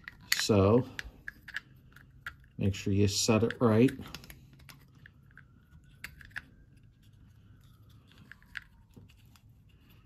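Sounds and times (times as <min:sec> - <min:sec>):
plastic and metal parts clicking: 0:00.0 - 0:02.6, 0:03.3 - 0:09.4.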